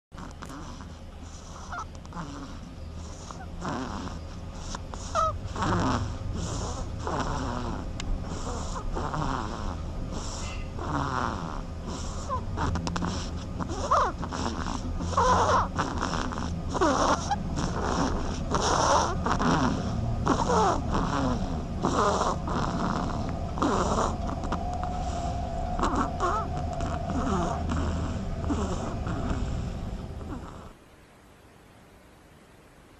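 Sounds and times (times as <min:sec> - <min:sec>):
duckling snoring: 0:00.1 - 0:30.8.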